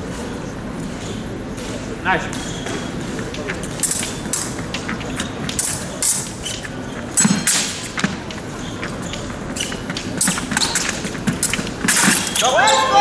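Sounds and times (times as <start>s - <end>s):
fencers' footwork thumps and shuffling: 0.0s - 12.9s
hum of large hall: 0.0s - 13.0s.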